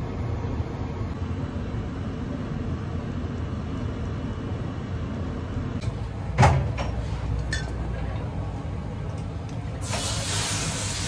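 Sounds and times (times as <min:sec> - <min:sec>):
low kitchen rumble: 0:00.0 - 0:11.0.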